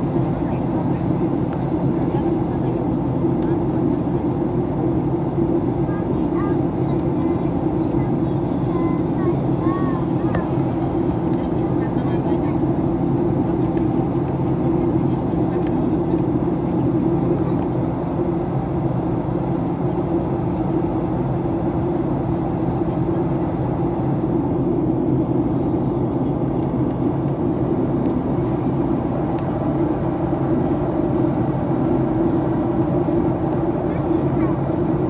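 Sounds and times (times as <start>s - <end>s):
aircraft cabin engine rumble: 0.0s - 35.0s
constant low hum: 0.0s - 35.0s.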